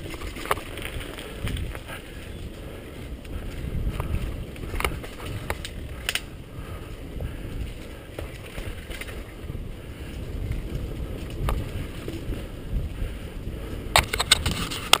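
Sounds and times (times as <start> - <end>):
bike clicks and rattles: 0.0 - 15.0
wind rumbling on microphone: 0.0 - 15.0.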